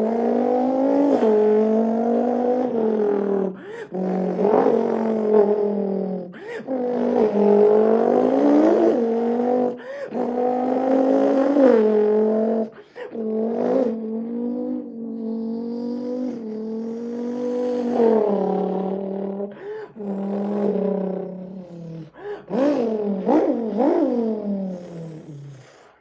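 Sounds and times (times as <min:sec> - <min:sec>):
man imitating engine with mouth: 0:00.0 - 0:26.0.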